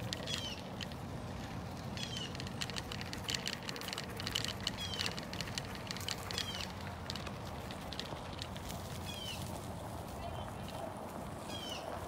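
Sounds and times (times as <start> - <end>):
bicycle tyres crunching on gravel: 0.0 - 12.0.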